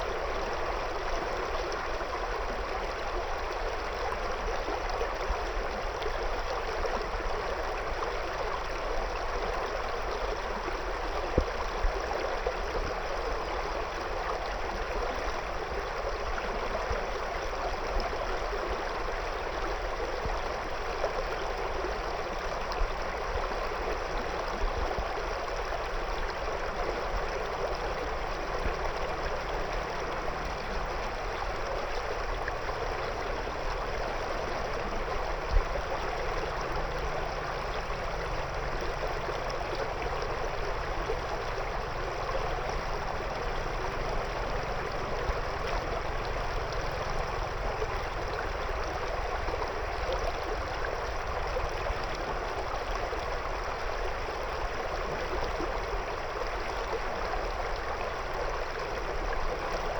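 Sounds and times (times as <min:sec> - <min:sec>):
river water flowing over stones: 0:00.0 - 0:59.9
small water splashes: 0:03.3 - 0:59.9.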